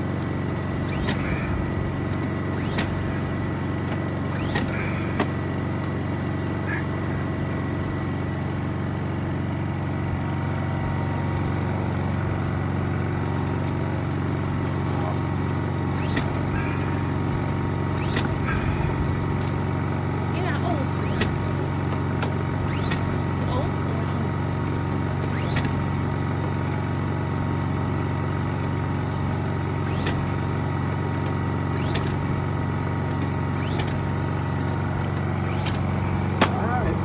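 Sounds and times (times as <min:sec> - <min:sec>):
generator engine running: 0:00.0 - 0:37.0.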